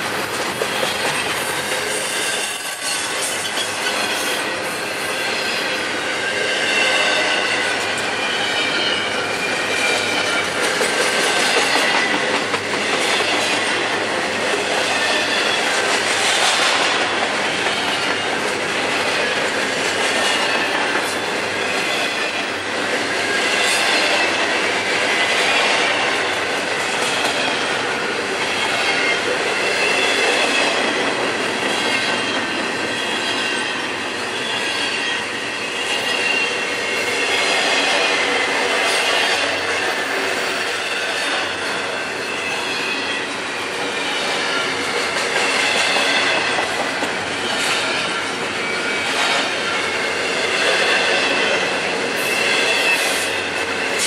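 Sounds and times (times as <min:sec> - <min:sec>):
train cars rattling on rails: 0:00.0 - 0:54.0.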